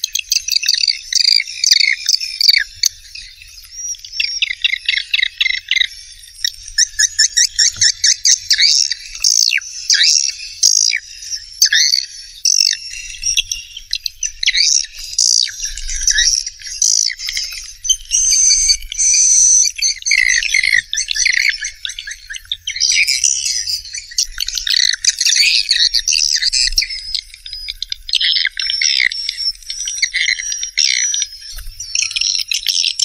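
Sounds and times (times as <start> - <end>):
birds chirping and twittering: 0.0 - 33.0.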